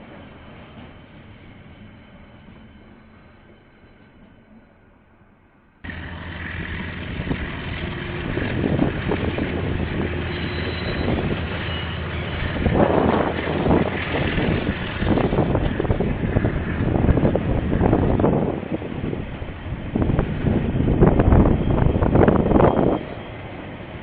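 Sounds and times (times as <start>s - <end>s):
diesel train engine rumble: 0.0s - 24.0s.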